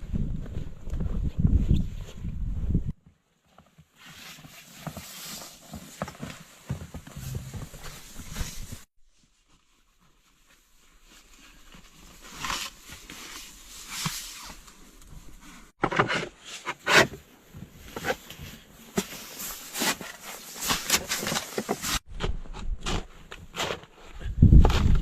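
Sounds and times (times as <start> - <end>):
crunching and scraping: 3.4 - 25.0.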